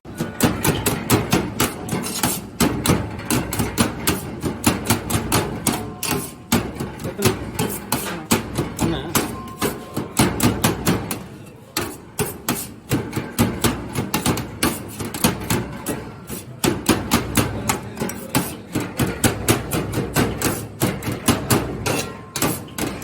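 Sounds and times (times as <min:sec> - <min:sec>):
knife chopping on cutting board: 0:00.1 - 0:23.0.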